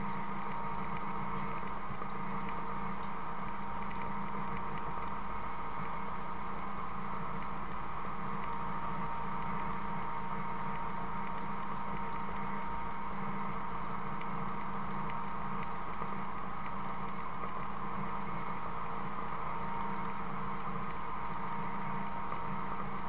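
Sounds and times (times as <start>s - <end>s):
bale feeder mechanical drone: 0.0s - 23.0s.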